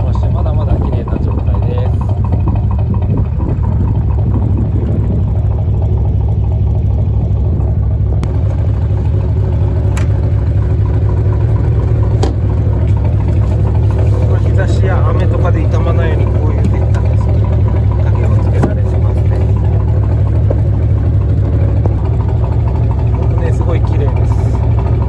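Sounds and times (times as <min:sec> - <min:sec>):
boat engine idling: 0:00.0 - 0:25.0.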